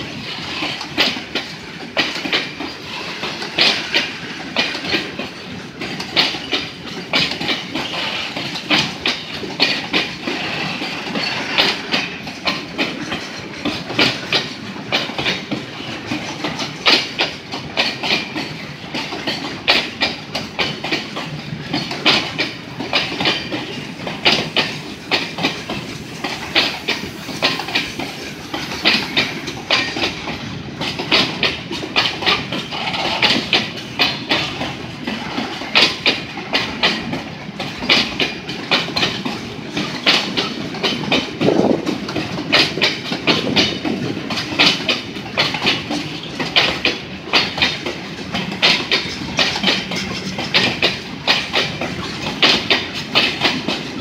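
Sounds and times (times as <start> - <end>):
freight wagons rumbling: 0.0 - 54.0
steel wheels clacking over rail joints: 0.0 - 54.0.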